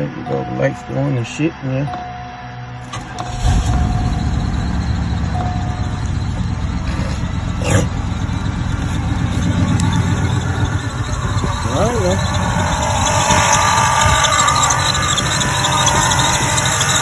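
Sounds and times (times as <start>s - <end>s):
car engine starting and idling: 2.8s - 17.0s.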